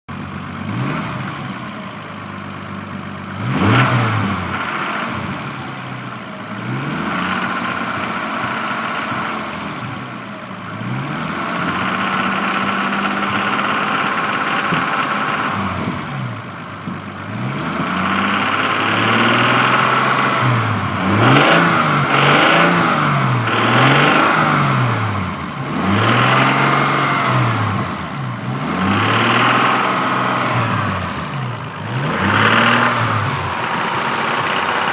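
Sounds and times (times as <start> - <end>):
car engine revving: 0.1 - 34.9
odd engine noise on acceleration: 0.1 - 34.9.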